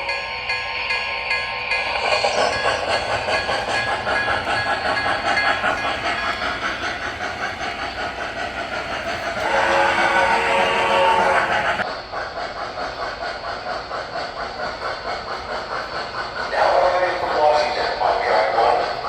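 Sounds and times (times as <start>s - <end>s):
model steam locomotive chuffing: 0.0s - 19.0s
steam hiss: 0.0s - 19.0s.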